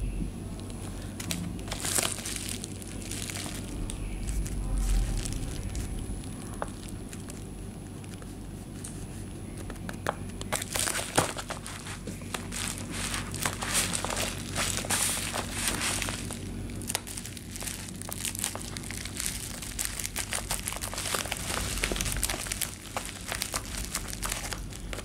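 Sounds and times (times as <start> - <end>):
bubble wrap crinkling: 0.4 - 25.0.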